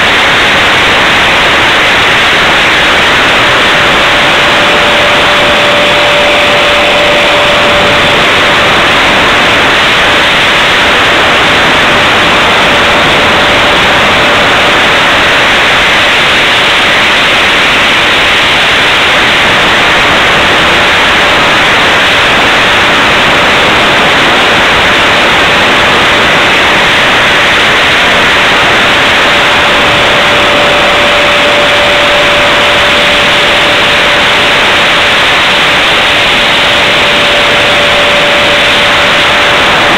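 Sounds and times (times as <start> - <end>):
electric ducted fan rushing: 0.0 - 39.9
thin steady whine: 0.0 - 39.9.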